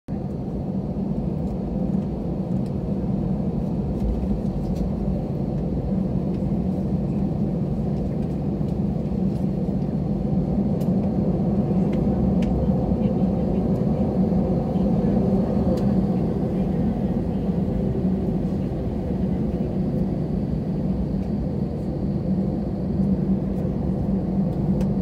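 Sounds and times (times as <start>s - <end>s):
jet engines at low thrust: 0.1s - 25.0s.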